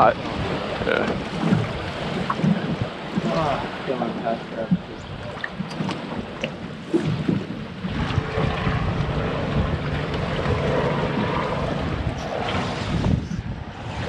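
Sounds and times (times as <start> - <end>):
water moving along boat hull: 0.0 - 14.0
wind buffeting microphone: 0.0 - 14.0.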